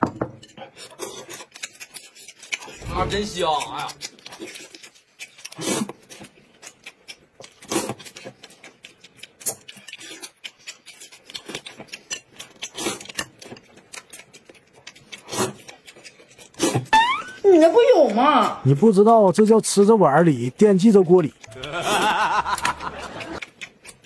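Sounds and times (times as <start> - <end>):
people chewing: 0.4 - 24.0.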